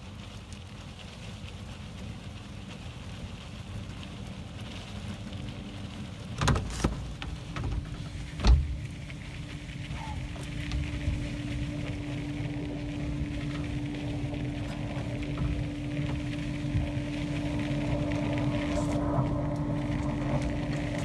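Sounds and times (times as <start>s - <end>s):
insulation blowing through hose: 3.6s - 21.0s
insulation pattering on floor: 4.1s - 21.0s.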